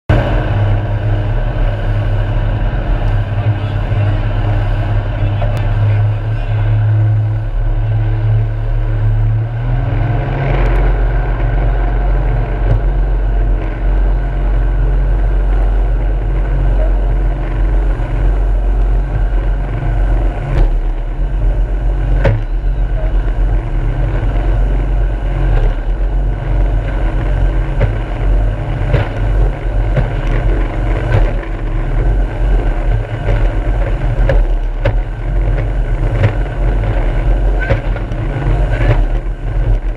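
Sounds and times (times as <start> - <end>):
jet boat engine drone: 0.1 - 39.9.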